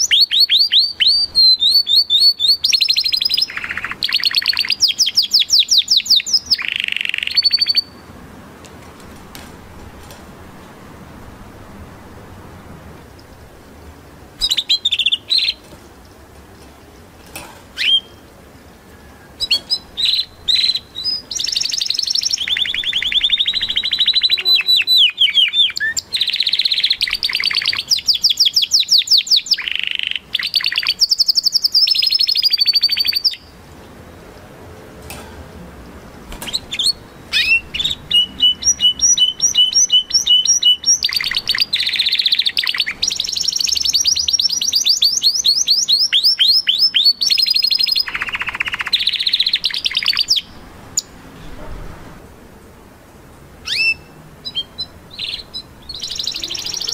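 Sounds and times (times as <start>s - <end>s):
canary singing trills: 0.0s - 8.1s, 13.1s - 16.2s, 17.7s - 33.6s, 35.6s - 51.2s, 53.6s - 56.9s.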